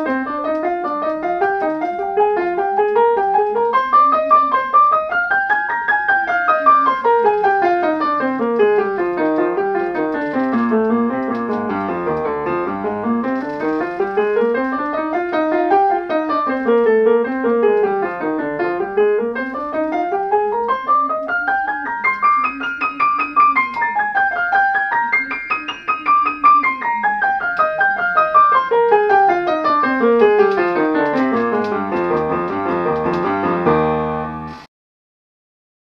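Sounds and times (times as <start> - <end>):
fast piano runs: 0.0 - 34.7.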